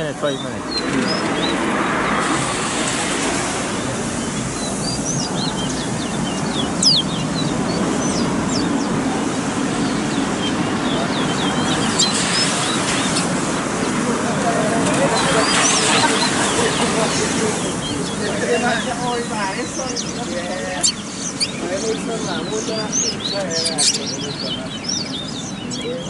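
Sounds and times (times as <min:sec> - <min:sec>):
birds chirping and whistling: 0:00.0 - 0:02.5, 0:03.8 - 0:09.0, 0:09.8 - 0:26.0.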